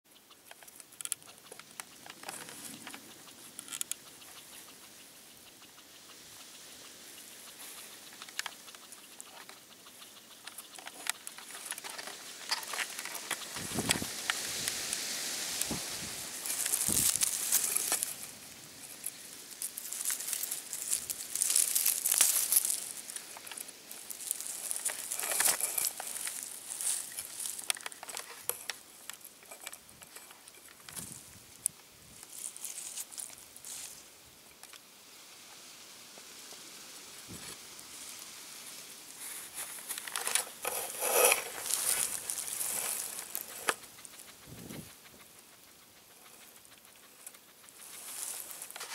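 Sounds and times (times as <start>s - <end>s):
dry grass rustling and crackling: 0.1s - 48.9s.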